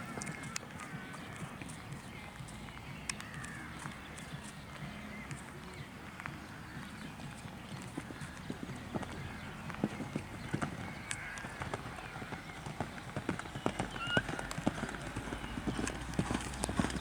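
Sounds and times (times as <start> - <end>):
horse hoofbeats: 0.0 - 17.0.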